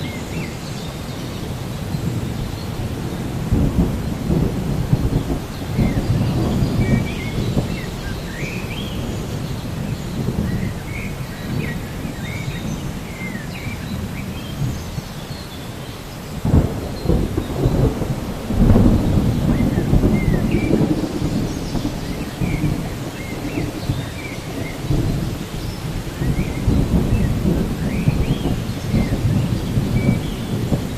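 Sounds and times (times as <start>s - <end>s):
steady rain: 0.0s - 30.9s
rolling thunder: 1.4s - 15.1s, 16.2s - 30.9s.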